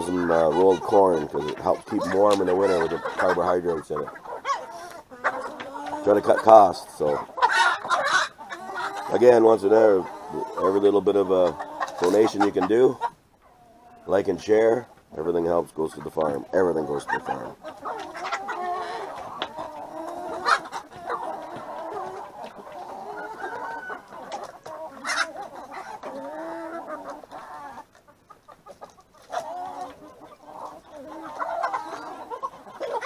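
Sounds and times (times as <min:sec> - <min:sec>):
hens and roosters clucking: 0:00.0 - 0:33.0
sharp high chicken calls: 0:00.2 - 0:14.1, 0:16.8 - 0:33.0.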